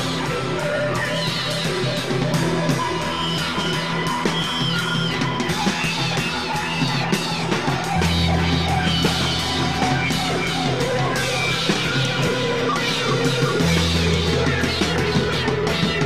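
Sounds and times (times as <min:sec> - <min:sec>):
heavy rock music: 0:00.0 - 0:16.0.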